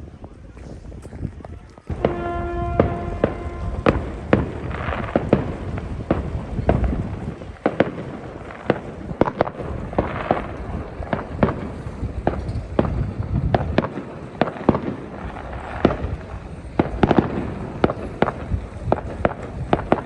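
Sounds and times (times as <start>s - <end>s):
distant explosions rumbling: 0.0s - 20.0s
fireworks bangs and pops: 0.0s - 20.0s.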